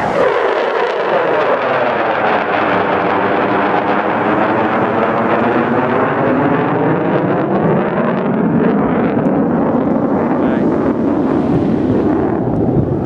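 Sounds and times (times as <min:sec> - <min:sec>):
jet aircraft passing overhead: 0:00.0 - 0:13.0.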